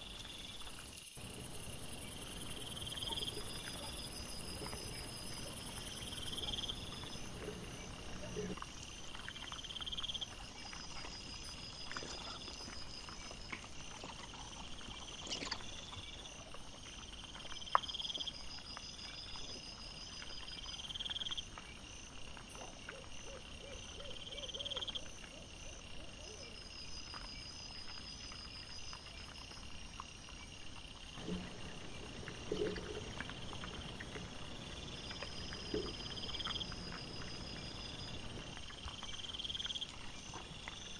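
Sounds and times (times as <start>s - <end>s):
night insects chirping: 0.0s - 40.9s.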